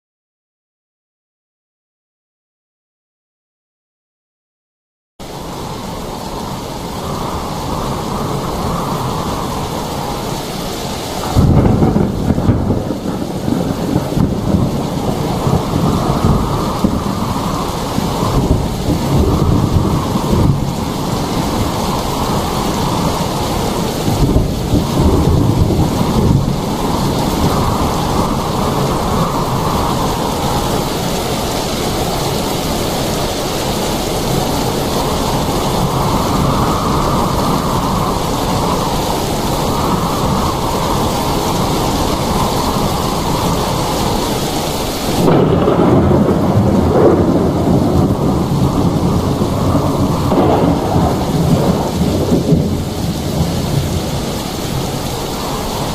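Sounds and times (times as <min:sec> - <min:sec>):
heavy rain: 0:05.2 - 0:55.9
thunder rumbling: 0:05.2 - 0:55.9.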